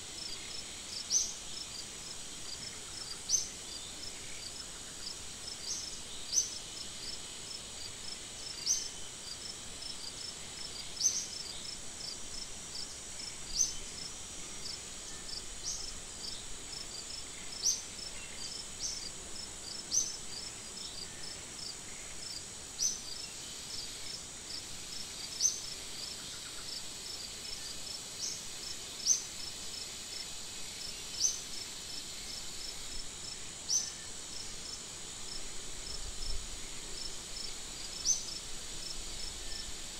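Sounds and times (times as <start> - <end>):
faint ticking insect chirps: 0.0 - 39.9
insect drone: 0.0 - 39.9
sharp loud insect chirp: 0.2 - 1.8, 2.5 - 39.9.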